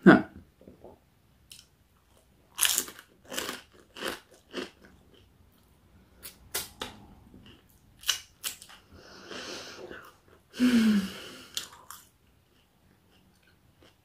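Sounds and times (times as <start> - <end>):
chewing crispy food: 1.5 - 10.5, 11.4 - 14.0.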